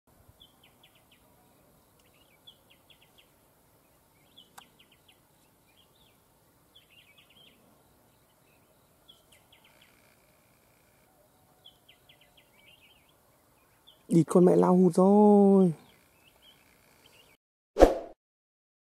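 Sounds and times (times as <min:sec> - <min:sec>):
birds calling faintly: 0:00.2 - 0:17.4.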